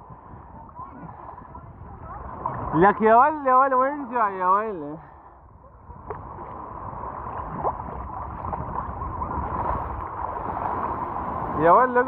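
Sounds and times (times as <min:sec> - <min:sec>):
small waves washing over sand: 0:00.0 - 0:12.0.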